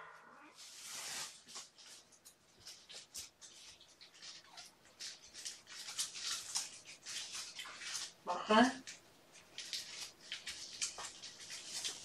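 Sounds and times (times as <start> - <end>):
paws scratching and rustling: 0.6 - 8.2, 8.9 - 12.0.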